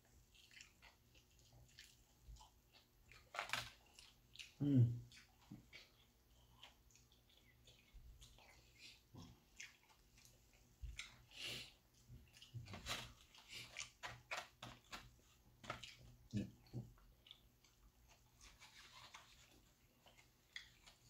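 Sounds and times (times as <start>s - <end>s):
man chewing food: 0.0s - 21.0s.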